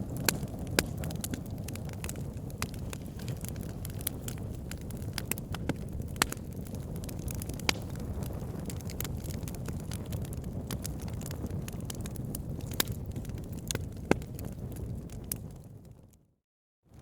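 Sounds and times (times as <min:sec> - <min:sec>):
low rush of flame: 0:00.0 - 0:16.0
wood crackling and popping: 0:00.0 - 0:16.0.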